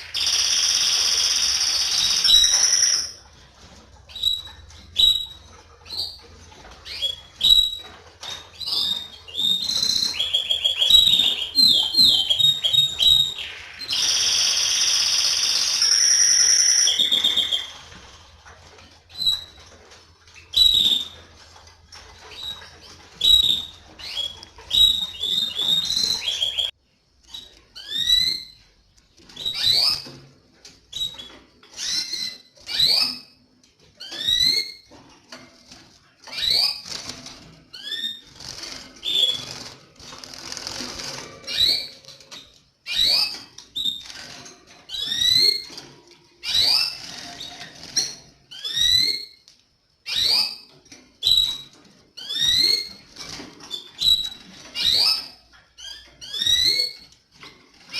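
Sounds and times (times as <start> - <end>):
canary trill: 0.0 - 30.3, 30.9 - 57.9
canaries chirping and singing: 0.0 - 57.9.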